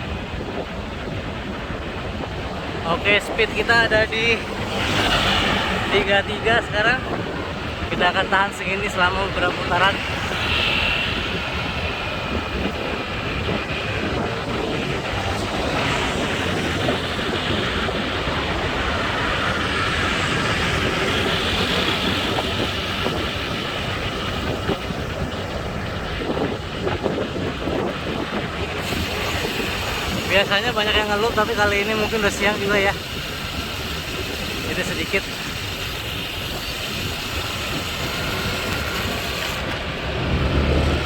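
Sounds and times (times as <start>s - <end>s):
bicycle road noise: 0.0s - 41.0s
wind over microphone: 0.0s - 41.0s.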